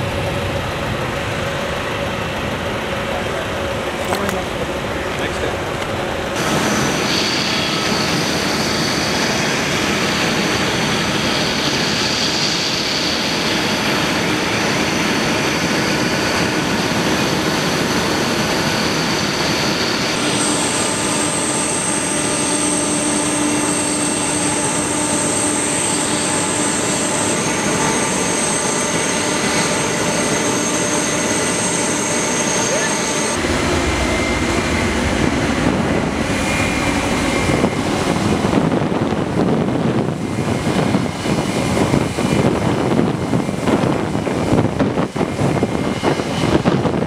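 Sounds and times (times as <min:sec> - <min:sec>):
high jet whine: 0:00.0 - 0:47.0
jet engines roaring: 0:00.0 - 0:47.0.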